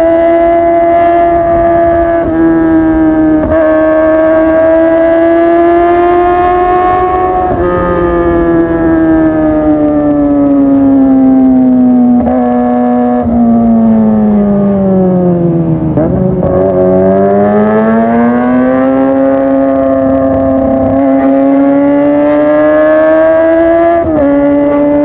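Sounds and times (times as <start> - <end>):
motorcycle engine high-pitched: 0.0 - 25.0.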